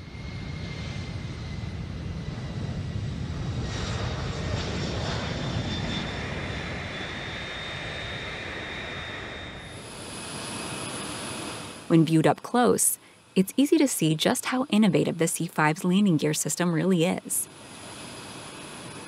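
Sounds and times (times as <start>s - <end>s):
high-pitched engine whine: 0.0s - 19.0s
jet engines roaring: 0.0s - 19.0s.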